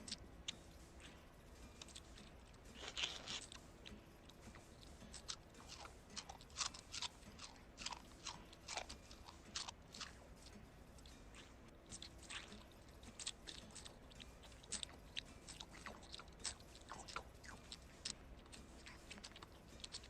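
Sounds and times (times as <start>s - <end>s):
cartoon crunchy chewing: 0.0s - 20.0s.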